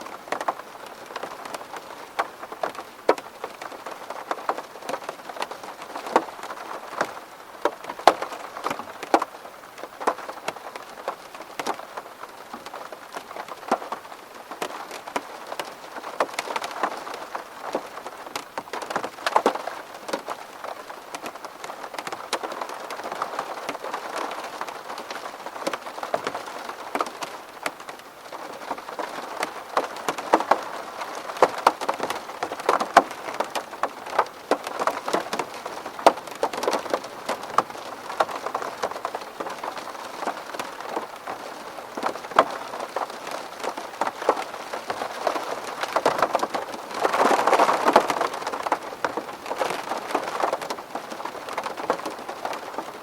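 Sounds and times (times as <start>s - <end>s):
rain on window glass: 0.0s - 53.0s.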